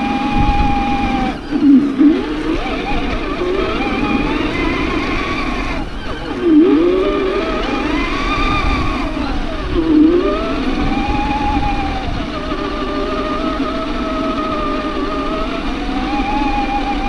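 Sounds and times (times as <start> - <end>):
toy truck electric motor whine: 0.0 - 17.0.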